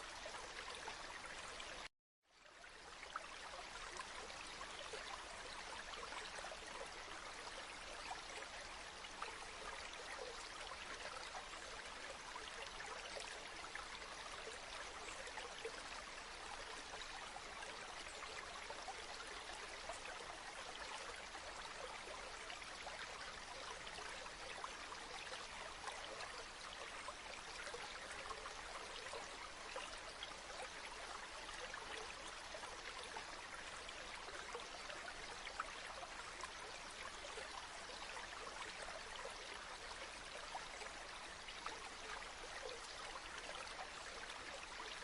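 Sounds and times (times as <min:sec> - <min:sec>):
river water flowing: 0:00.0 - 0:45.0.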